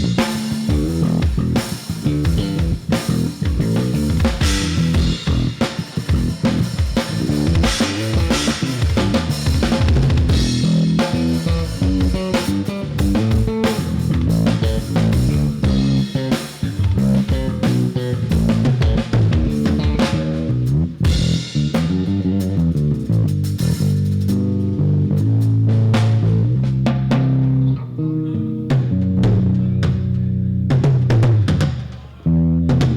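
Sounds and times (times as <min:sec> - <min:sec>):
guitar: 0:00.0 - 0:20.5, 0:24.7 - 0:32.9
drum kit steady beat: 0:00.0 - 0:27.6
bass guitar line: 0:00.0 - 0:32.9.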